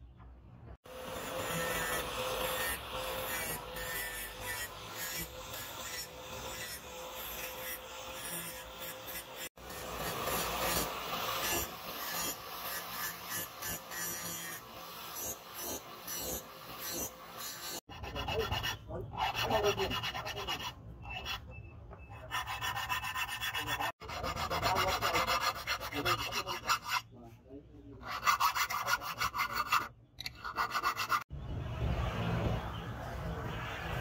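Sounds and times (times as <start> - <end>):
file rasping on steel: 0.9 - 27.2, 28.0 - 31.3.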